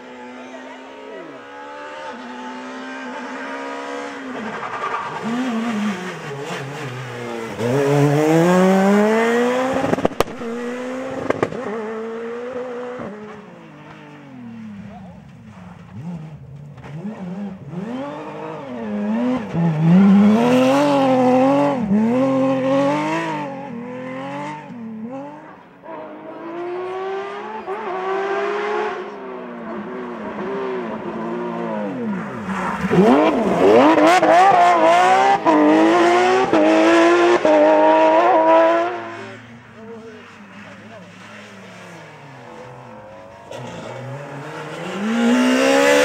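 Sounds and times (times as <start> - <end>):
rally car engines revving past: 0.0 - 46.0.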